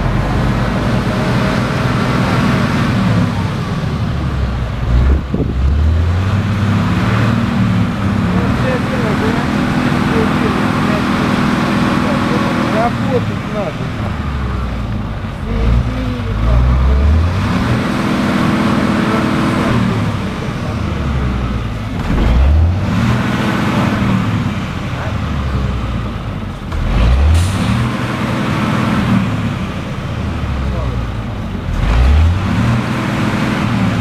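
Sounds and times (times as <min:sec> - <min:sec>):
road noise: 0:00.0 - 0:34.0
vehicle engine accelerating: 0:00.0 - 0:34.0.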